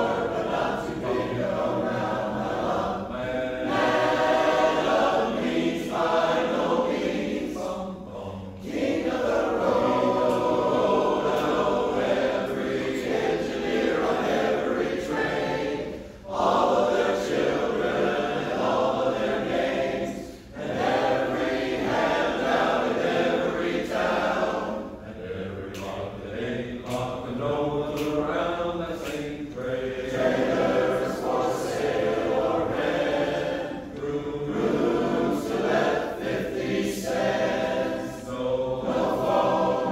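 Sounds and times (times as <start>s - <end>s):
men's chorus singing a cappella: 0.0s - 39.9s.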